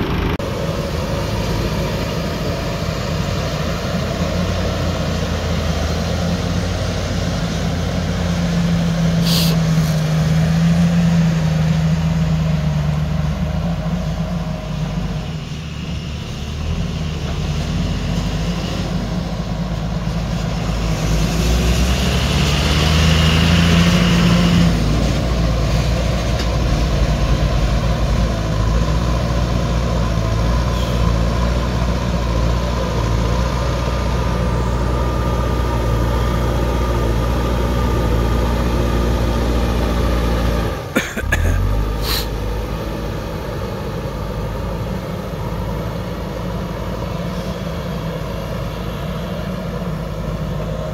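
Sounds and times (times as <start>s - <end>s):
diesel engine under load: 0.0s - 50.9s.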